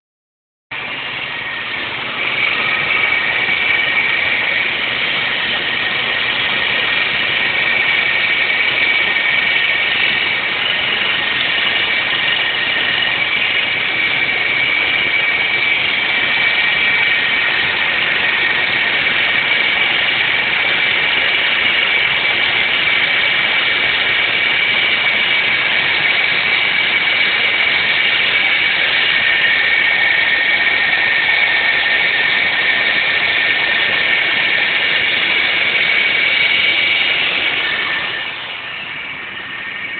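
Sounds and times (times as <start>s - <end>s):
high-pitched engine whine: 0.7s - 39.9s
car engine running: 0.8s - 39.9s.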